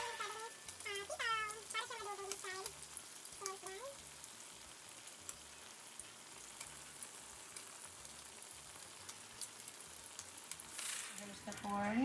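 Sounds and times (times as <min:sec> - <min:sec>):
food sizzling in a hot pan: 0:00.0 - 0:12.0.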